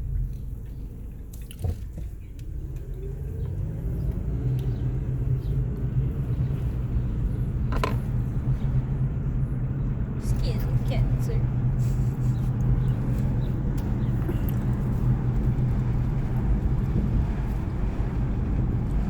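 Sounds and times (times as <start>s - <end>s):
car driving heard from cabin: 0.0s - 19.0s.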